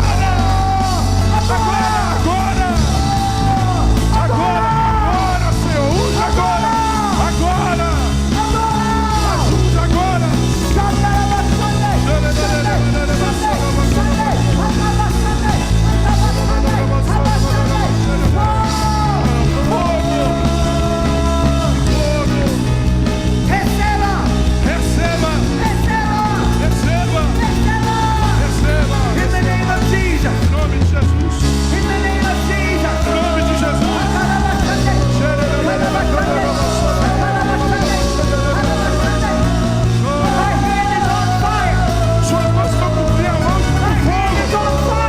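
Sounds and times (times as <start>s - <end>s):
voices singing: 0.0s - 30.2s, 31.5s - 45.0s
live band playing worship music: 0.0s - 45.0s.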